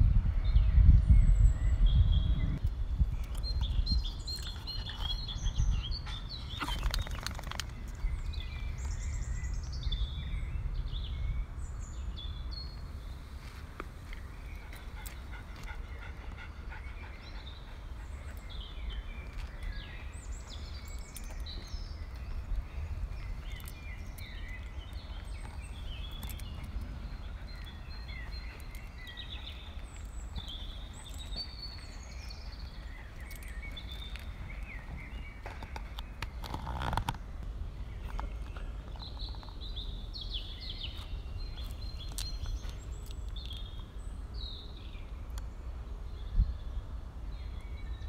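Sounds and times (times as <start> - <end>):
small birds chirping: 0.3 - 48.0.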